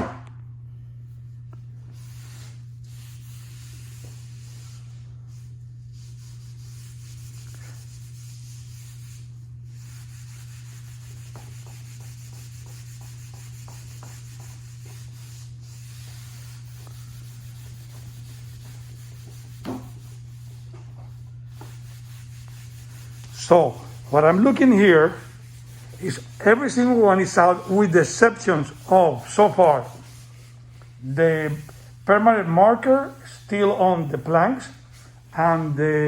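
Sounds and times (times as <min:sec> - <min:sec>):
steady low hum: 0:00.0 - 0:36.0
rag scrubbing vinyl floor: 0:01.8 - 0:36.0.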